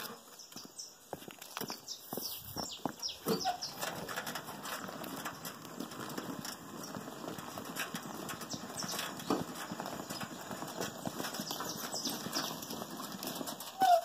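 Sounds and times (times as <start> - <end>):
wheelbarrow of logs clattering: 0.0 - 14.0.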